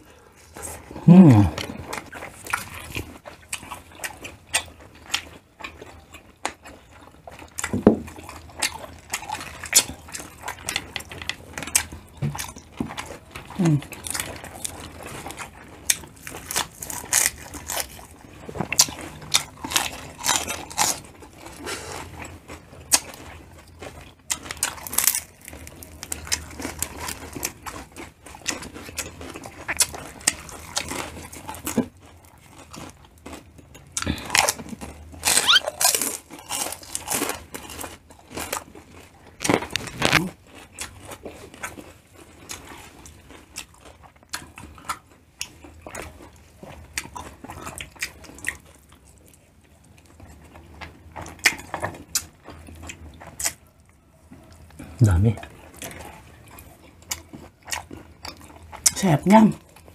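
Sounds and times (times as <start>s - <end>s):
crisp crunching and chewing: 0.0s - 59.9s.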